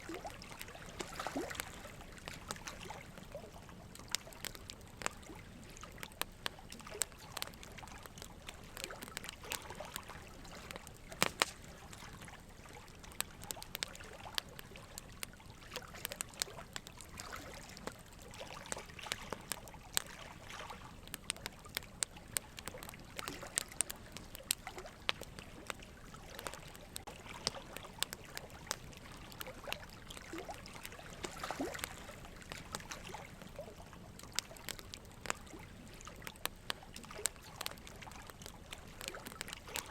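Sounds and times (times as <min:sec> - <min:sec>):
low steady hiss: 0:00.0 - 0:39.9
soft crackles and clicks: 0:00.0 - 0:39.9.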